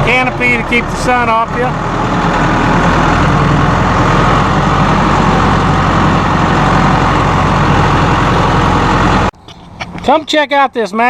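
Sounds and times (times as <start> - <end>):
tractor diesel engine running: 0.0 - 10.2.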